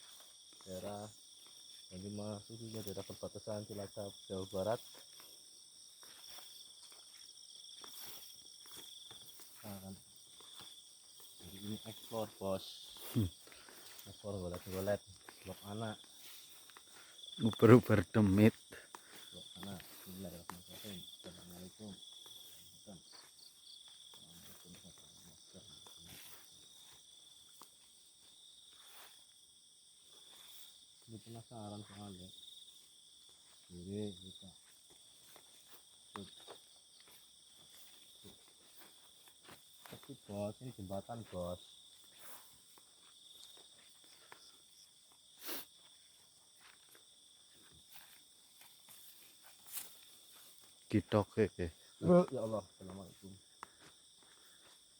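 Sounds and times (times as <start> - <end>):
night insects trilling: 0.0 - 54.9.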